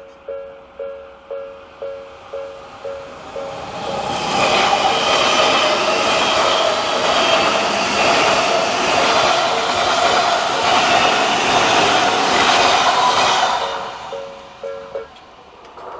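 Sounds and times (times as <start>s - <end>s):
crossing warning bell ringing: 0.0s - 15.9s
train wheels rushing: 1.8s - 15.9s.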